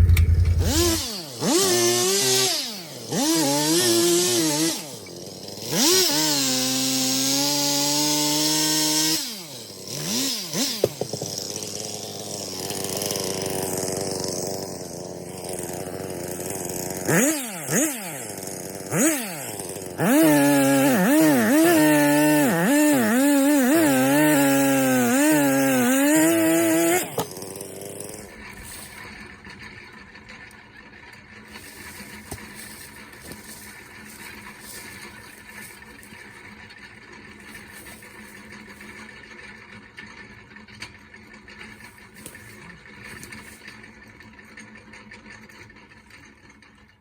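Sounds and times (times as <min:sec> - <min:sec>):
chainsaw revving and cutting wood: 0:00.0 - 0:30.4, 0:31.4 - 0:39.6.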